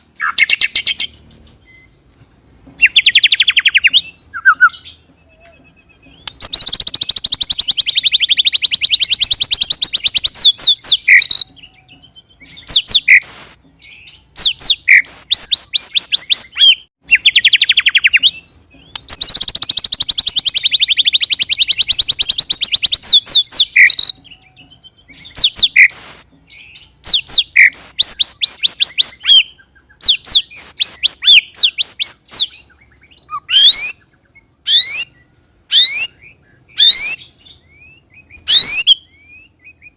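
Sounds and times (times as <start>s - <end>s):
bird song with rolling trills: 0.0s - 39.9s
sharp whistled bird notes: 2.8s - 11.5s, 12.2s - 24.2s, 24.9s - 34.0s, 34.7s - 39.9s.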